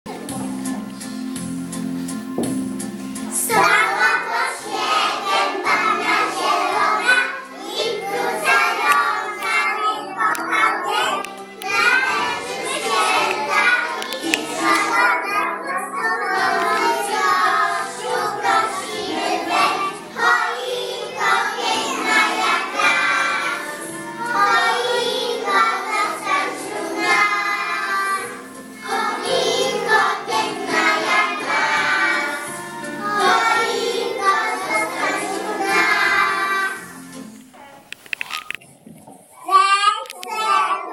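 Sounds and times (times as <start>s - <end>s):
instrumental accompaniment: 0.1s - 15.2s, 16.2s - 38.1s
children singing in unison: 3.3s - 37.3s.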